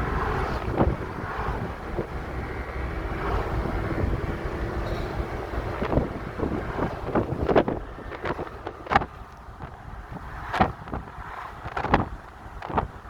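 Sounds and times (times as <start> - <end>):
car road and engine rumble: 0.0 - 13.0
wind on microphone: 0.0 - 13.0.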